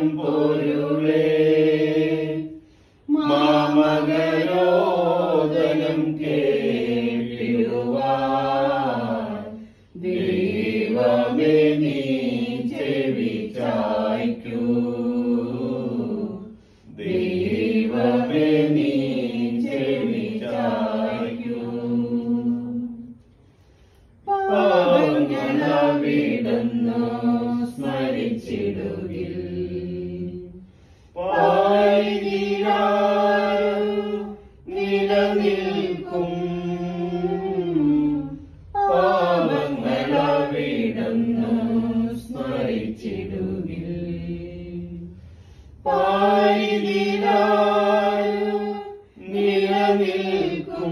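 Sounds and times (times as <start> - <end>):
group singing a hymn unaccompanied: 0.0 - 23.3, 24.0 - 50.9.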